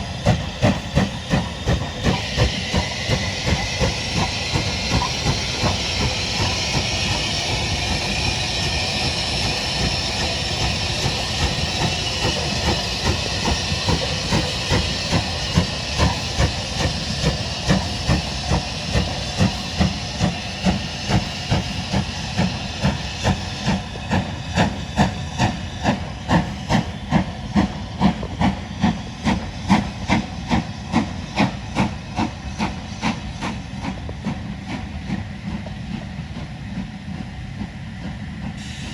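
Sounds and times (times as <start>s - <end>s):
rhythmic beat of moving train: 0.0s - 38.9s
steam locomotive hissing: 0.0s - 38.9s.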